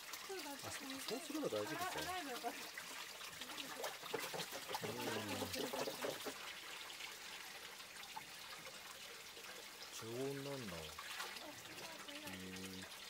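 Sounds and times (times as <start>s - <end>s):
water splashing into stone basin: 0.0s - 13.0s.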